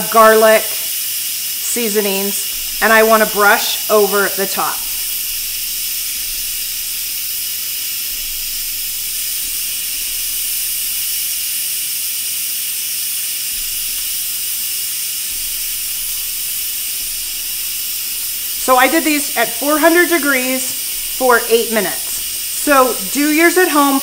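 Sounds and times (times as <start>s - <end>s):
pressure cooker venting steam: 0.0s - 24.0s.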